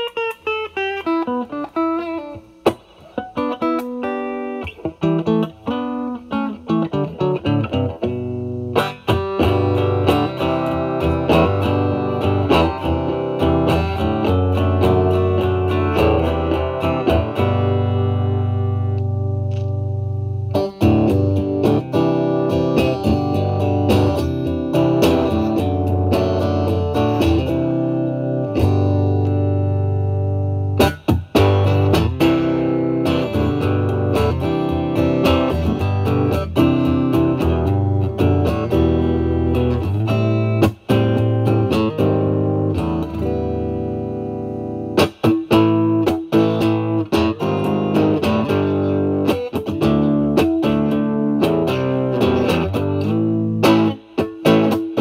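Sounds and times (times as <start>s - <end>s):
overdriven electric guitar: 0.0s - 55.0s.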